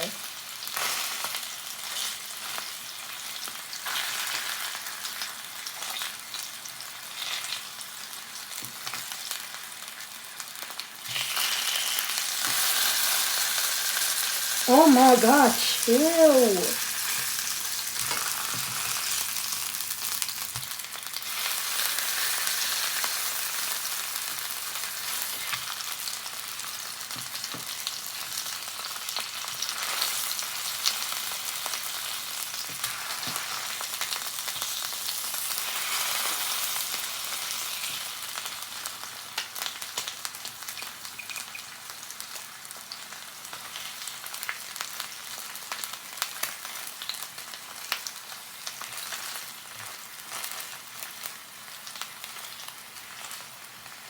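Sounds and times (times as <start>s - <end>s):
fish sizzling in a pan: 0.0s - 54.0s.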